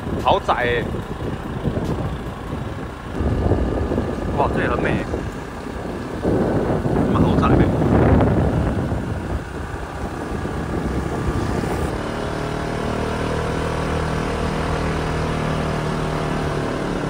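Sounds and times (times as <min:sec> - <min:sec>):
wind buffeting microphone: 0:00.0 - 0:15.3
scooter engine running: 0:00.0 - 0:17.0.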